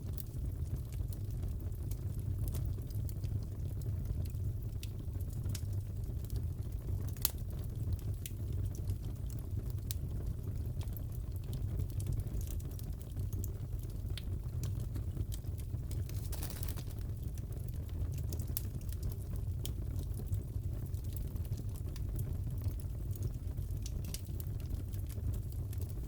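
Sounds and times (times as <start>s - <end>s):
burning logs rumbling: 0.0s - 26.0s
fire popping and crackling: 0.0s - 26.0s.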